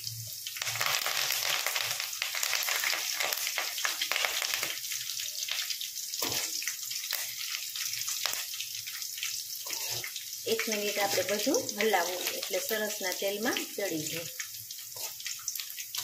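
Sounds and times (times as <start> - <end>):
leaves sizzling in hot oil: 0.0 - 16.0.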